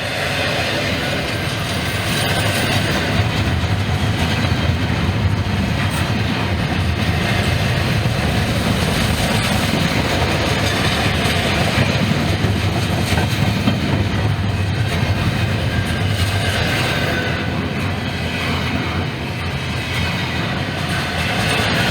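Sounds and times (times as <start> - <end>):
freight train rumbling past: 0.0 - 21.9.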